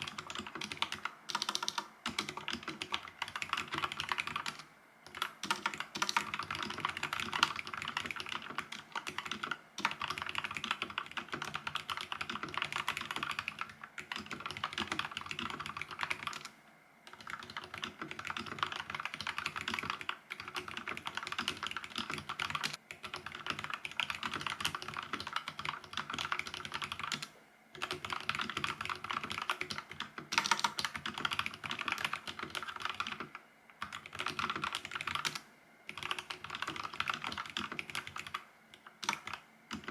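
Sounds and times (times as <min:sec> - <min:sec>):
fast typing on mechanical keyboard: 0:00.0 - 0:16.5, 0:17.1 - 0:39.9.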